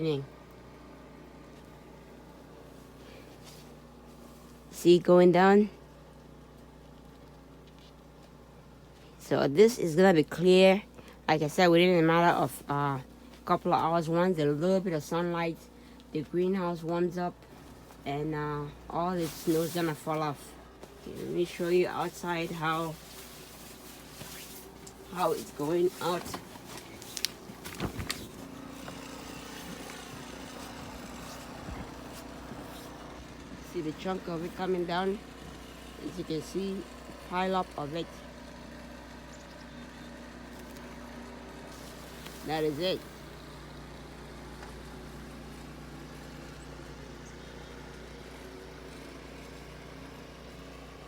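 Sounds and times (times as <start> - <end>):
low background hum: 0.0 - 51.0.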